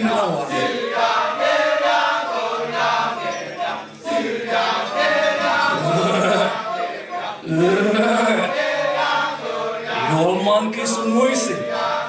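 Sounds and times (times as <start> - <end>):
chorus of voices chanting: 0.0 - 12.0.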